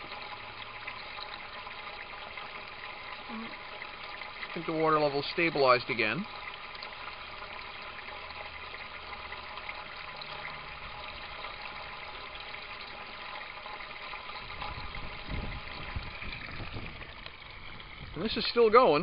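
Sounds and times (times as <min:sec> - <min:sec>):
water rushing down a drain: 0:00.0 - 0:19.0.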